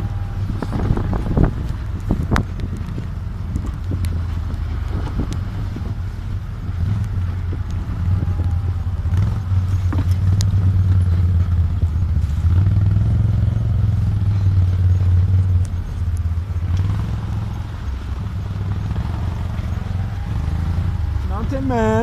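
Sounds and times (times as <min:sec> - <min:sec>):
utv engine running: 0:00.0 - 0:22.0.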